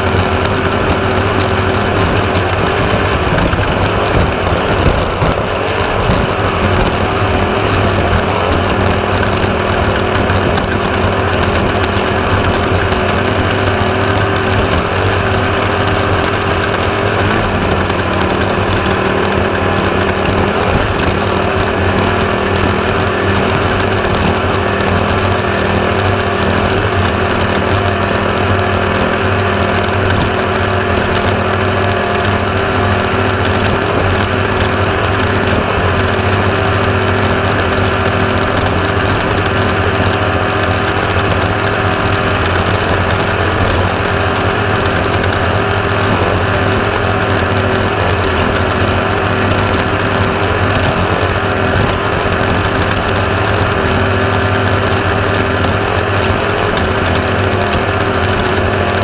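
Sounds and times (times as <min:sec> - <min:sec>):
car clattering and rattling: 0:00.0 - 0:59.0
engine droning: 0:00.0 - 0:59.0.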